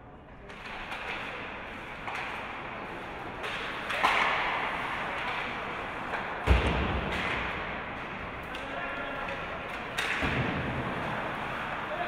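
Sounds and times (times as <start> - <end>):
hockey skates and sticks on ice: 0.4 - 12.0.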